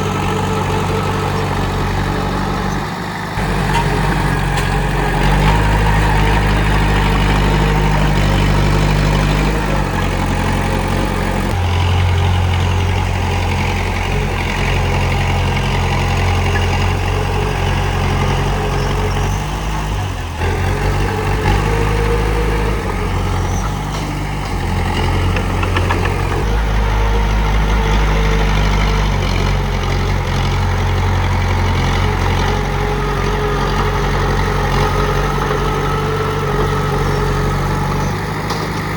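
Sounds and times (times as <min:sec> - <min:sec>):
bulldozer diesel engine: 0:00.0 - 0:38.9.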